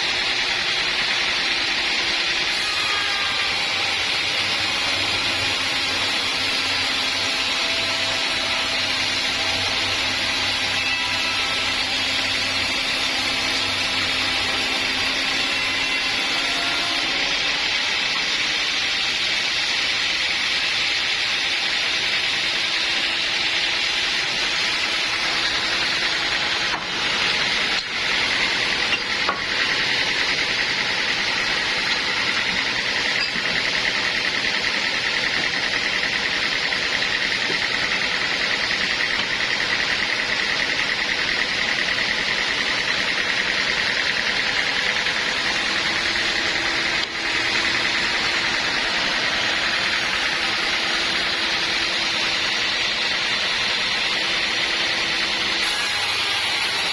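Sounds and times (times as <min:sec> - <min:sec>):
sawmill saw cutting log: 0:00.0 - 0:56.9.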